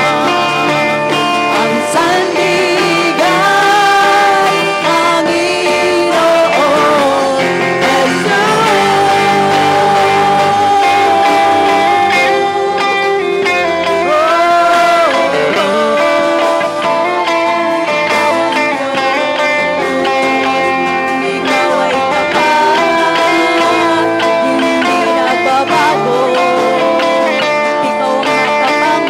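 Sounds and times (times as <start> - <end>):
bent guitar melody: 0.0 - 29.0
guitar-led worship band music: 0.0 - 29.0.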